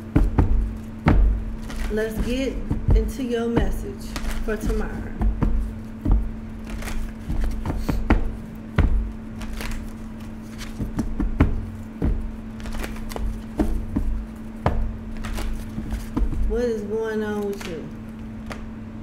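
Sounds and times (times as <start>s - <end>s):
cards being shuffled: 0.0s - 16.6s, 17.2s - 18.7s
steady low hum: 0.0s - 19.0s.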